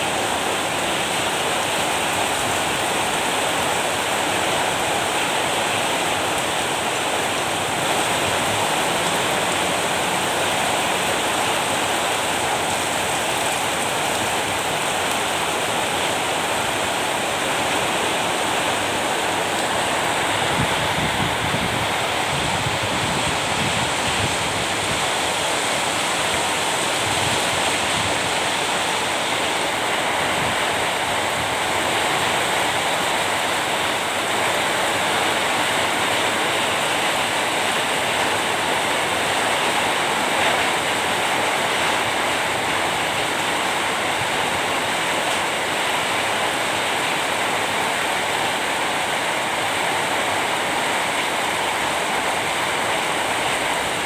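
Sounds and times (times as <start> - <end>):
rain falling steadily: 0.0 - 54.0.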